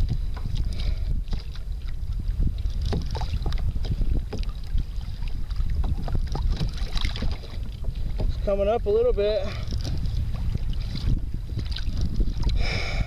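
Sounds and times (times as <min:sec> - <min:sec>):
water splashing against kayak hull: 0:00.0 - 0:13.0
wind buffeting microphone: 0:00.0 - 0:13.0.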